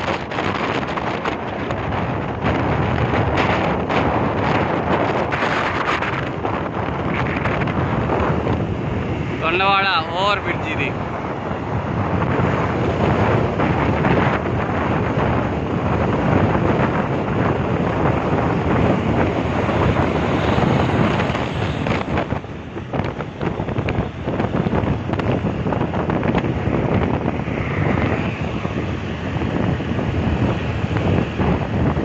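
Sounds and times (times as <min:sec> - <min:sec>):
road noise: 0:00.0 - 0:32.0
wind rushing over microphone: 0:00.0 - 0:32.0.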